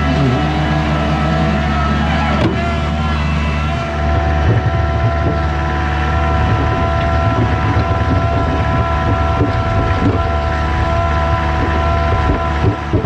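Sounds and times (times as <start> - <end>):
high-pitched whine: 0.0 - 13.0
skid steer engine running: 0.0 - 13.0.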